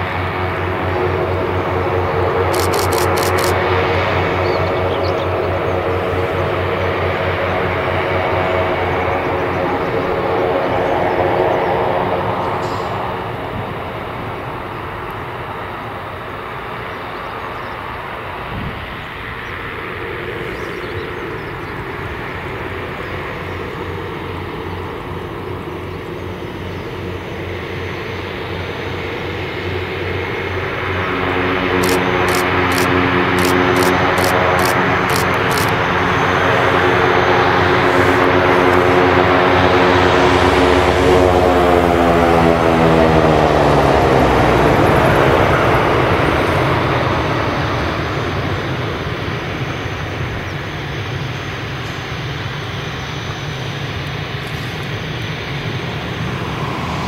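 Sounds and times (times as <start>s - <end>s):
turboprop engines running: 0.0s - 57.0s.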